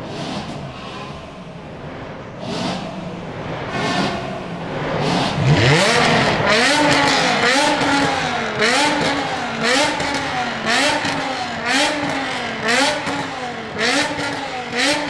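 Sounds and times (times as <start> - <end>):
car engine revving in blips: 0.0 - 15.0.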